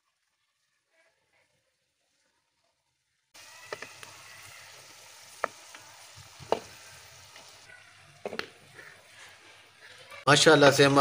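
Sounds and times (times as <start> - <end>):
fries sizzling in hot oil: 0.0 - 11.0.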